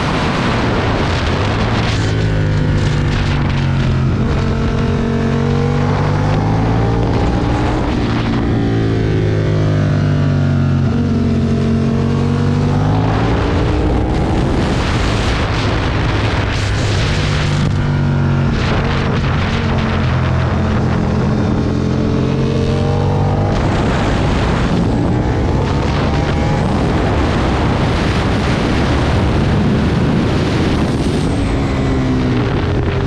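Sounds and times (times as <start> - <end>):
motorcycle engine at speed: 0.0 - 33.0
wind rush on microphone: 0.0 - 33.0.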